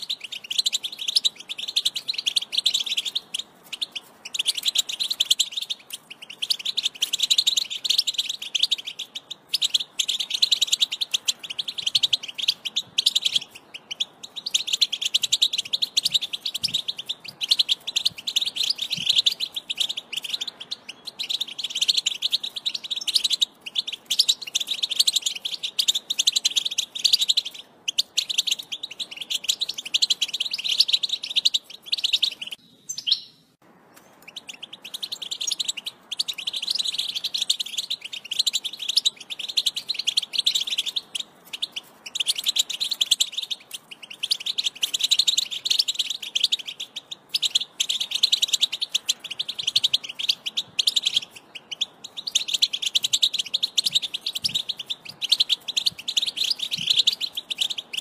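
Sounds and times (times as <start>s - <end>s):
goldfinch twittering song: 0.0s - 58.0s.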